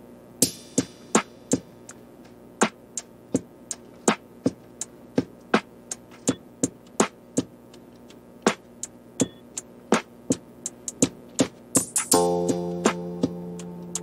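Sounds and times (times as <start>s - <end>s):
sparse electronic beat: 0.4s - 14.0s.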